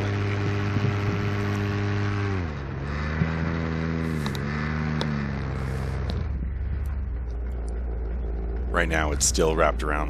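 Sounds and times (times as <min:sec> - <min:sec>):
paramotor engine revving: 0:00.0 - 0:10.0.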